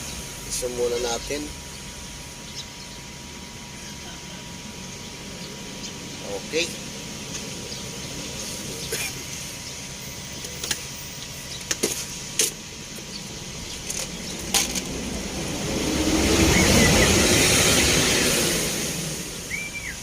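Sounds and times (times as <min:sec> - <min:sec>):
bird chirping: 0:00.0 - 0:11.8, 0:12.7 - 0:14.6, 0:16.2 - 0:18.2, 0:19.3 - 0:20.0
road vehicle passing: 0:00.0 - 0:20.0.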